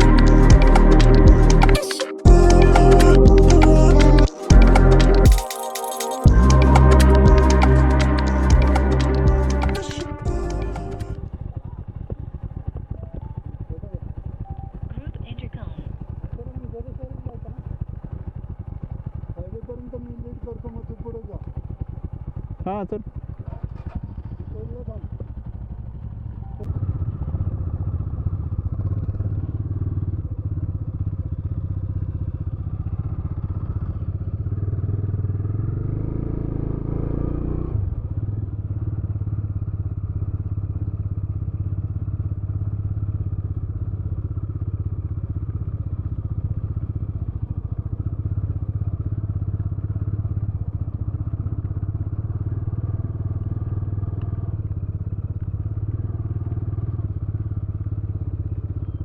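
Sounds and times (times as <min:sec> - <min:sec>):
motorcycle engine running: 0:00.0 - 0:05.5, 0:06.2 - 0:59.0.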